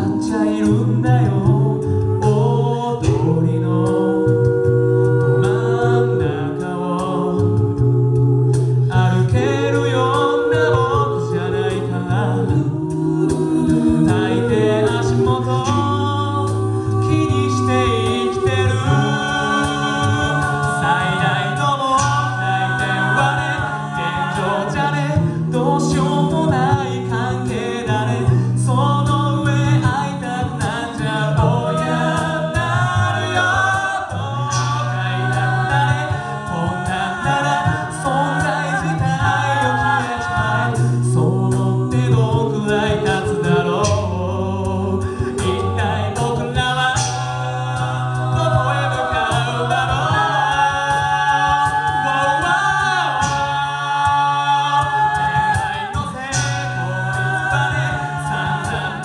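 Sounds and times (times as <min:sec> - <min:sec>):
a cappella group singing: 0:00.0 - 0:59.0.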